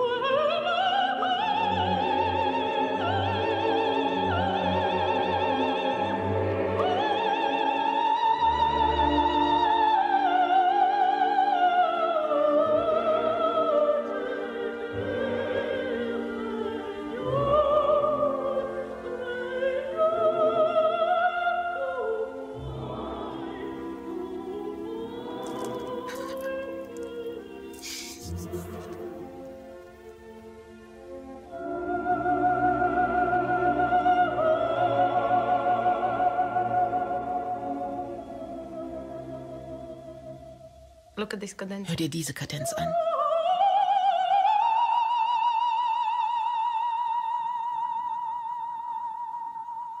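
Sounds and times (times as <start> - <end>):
operatic soprano singing: 0.0 - 29.8, 31.3 - 50.0
soft orchestral accompaniment: 0.0 - 43.4.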